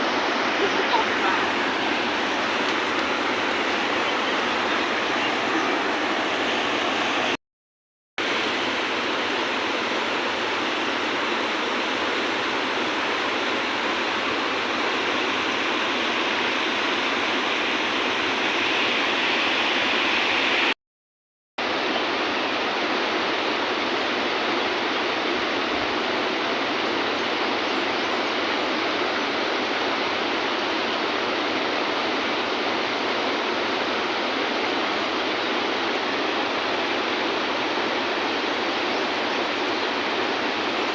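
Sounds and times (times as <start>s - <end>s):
river water rushing: 0.0s - 7.4s, 8.2s - 20.7s, 21.6s - 40.9s.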